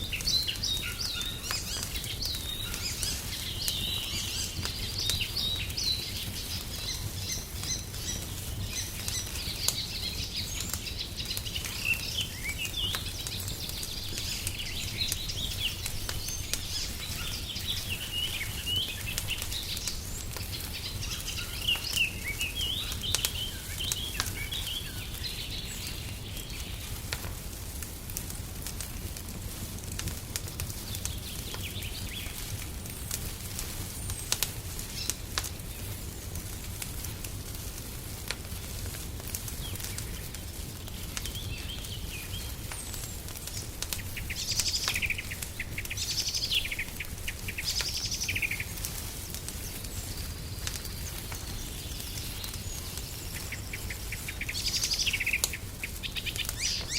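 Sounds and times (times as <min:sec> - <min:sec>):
songbirds chirping: 0:00.0 - 0:27.6, 0:30.4 - 0:56.9
wood fire crackling: 0:00.0 - 0:56.9.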